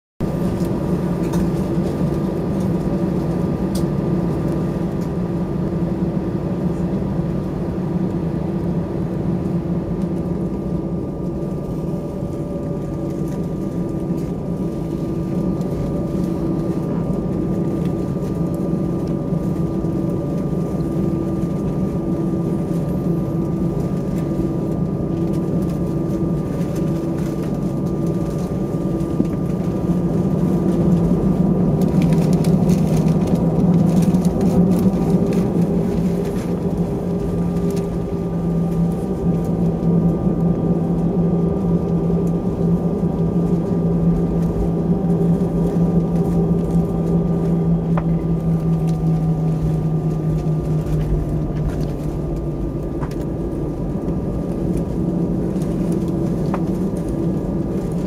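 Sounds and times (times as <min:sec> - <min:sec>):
jet engines humming: 0:00.2 - 0:58.0.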